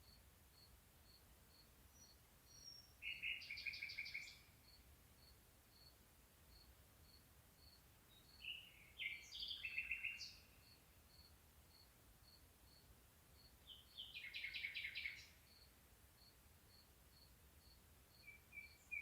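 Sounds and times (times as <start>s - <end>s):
faint high-pitched peep: 0.0s - 19.0s
songbird singing with trill: 0.1s - 5.9s, 7.7s - 11.8s, 12.7s - 16.8s, 17.6s - 19.0s.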